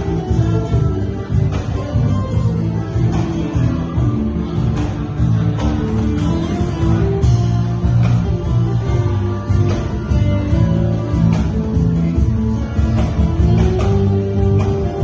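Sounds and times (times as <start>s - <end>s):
guitar-led music: 0.0s - 15.0s.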